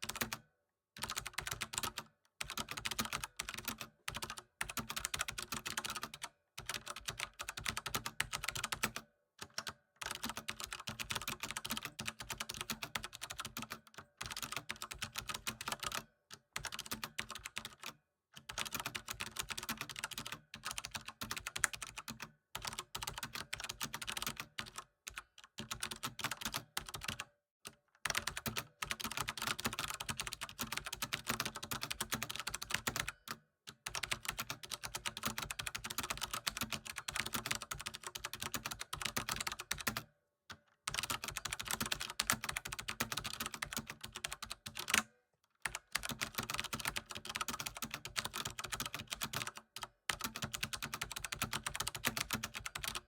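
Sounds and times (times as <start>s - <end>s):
computer keyboard typing: 0.0s - 0.4s, 1.0s - 27.3s, 28.0s - 40.1s, 40.9s - 53.0s.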